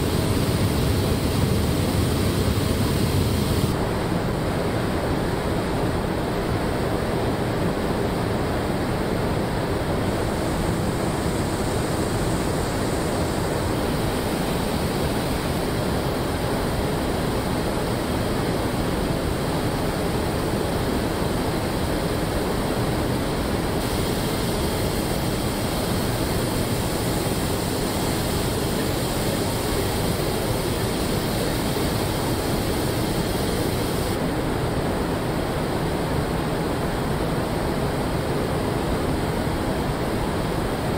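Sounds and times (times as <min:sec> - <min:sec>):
ventilation air rushing: 0:00.0 - 0:40.9.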